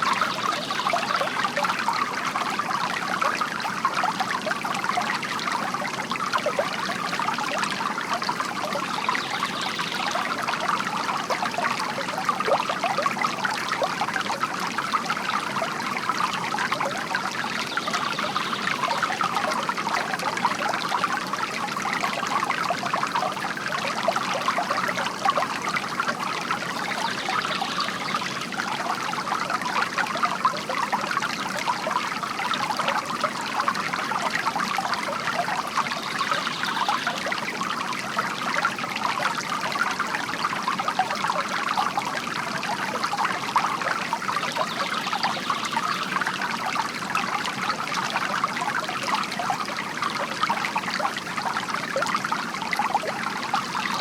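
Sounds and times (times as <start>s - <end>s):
fountain water trickling and splashing: 0.0s - 54.0s.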